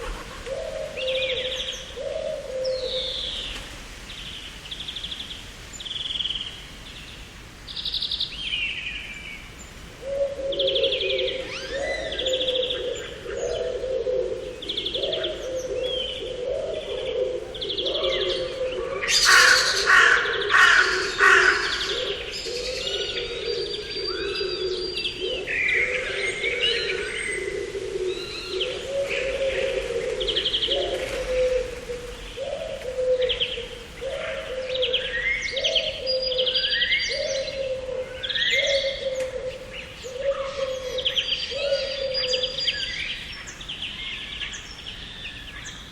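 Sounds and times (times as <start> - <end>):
garden birds singing and chirping: 0.0 - 45.9.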